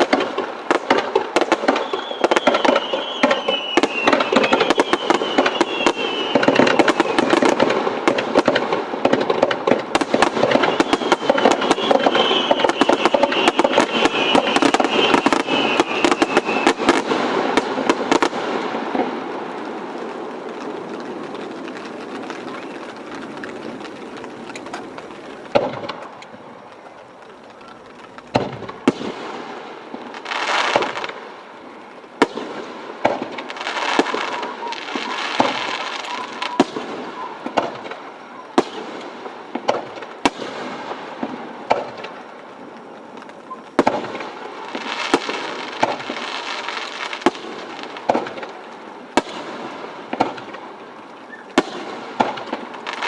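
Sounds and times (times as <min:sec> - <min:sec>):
fireworks bangs: 0:00.0 - 0:53.0.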